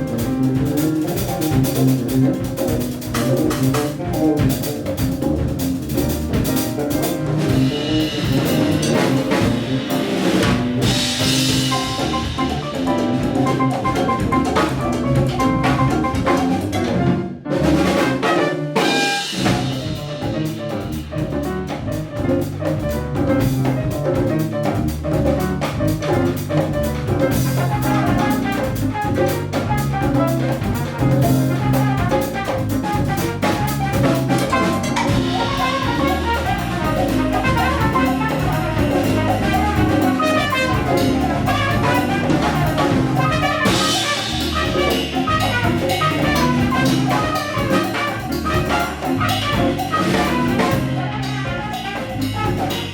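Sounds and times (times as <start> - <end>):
trumpet: 0.0 - 21.4, 26.1 - 52.9
jazz band playing: 0.0 - 52.9.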